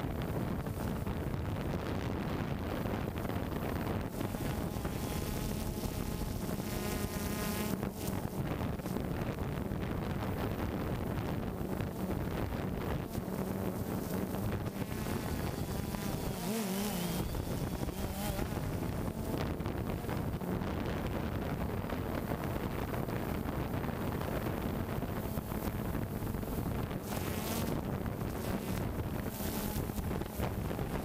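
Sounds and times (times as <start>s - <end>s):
drone propellers humming: 0.0s - 31.0s
wind buffeting microphone: 0.0s - 31.0s.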